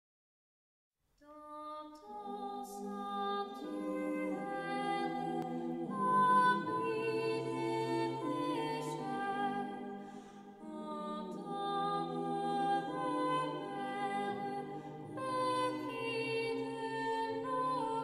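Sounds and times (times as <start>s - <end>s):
slow music of held chords: 2.0s - 18.0s.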